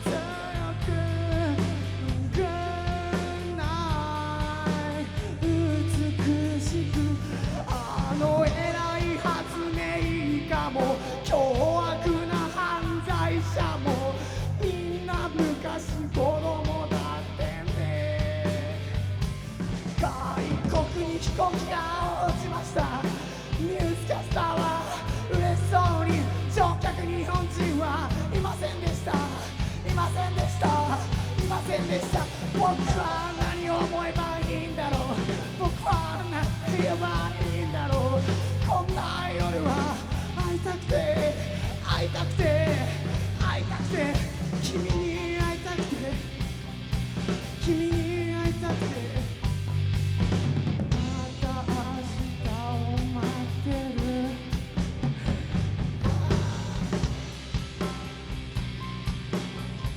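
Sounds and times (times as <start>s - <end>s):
bass line: 0.0s - 59.9s
drums: 0.0s - 59.9s.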